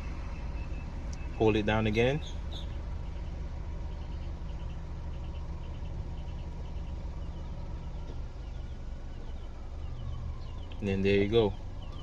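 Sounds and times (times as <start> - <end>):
high faint chirping: 0.0 - 12.0
steady low hum: 0.0 - 12.0.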